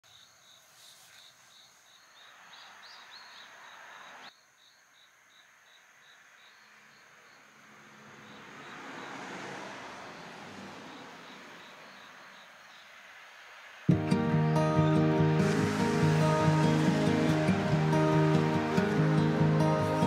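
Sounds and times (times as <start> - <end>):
insect chirping: 0.0 - 20.0.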